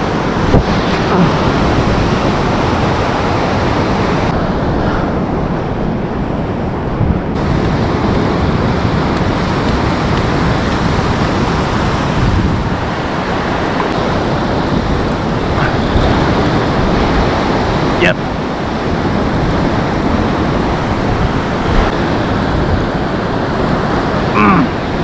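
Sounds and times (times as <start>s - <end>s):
ocean surf on beach: 0.0s - 25.0s.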